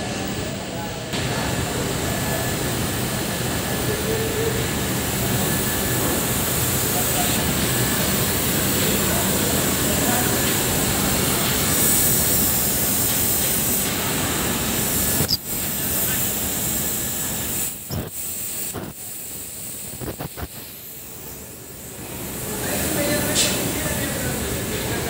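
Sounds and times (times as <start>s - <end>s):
gas cutting torch hissing: 1.1s - 25.0s.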